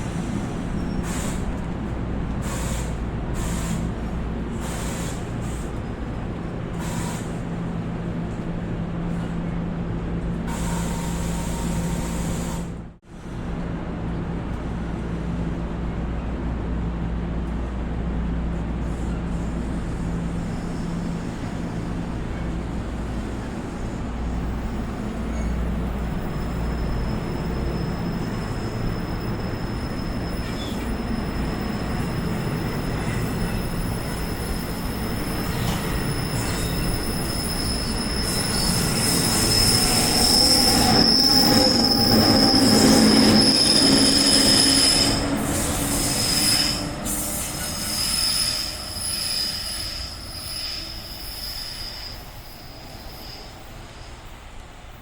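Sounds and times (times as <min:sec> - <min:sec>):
train equipment humming: 0:00.0 - 0:51.3.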